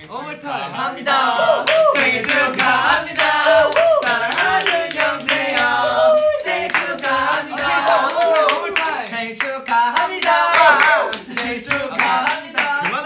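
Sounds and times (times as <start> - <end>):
young men singing: 0.4 - 13.0
group clapping rhythmically: 1.0 - 13.0.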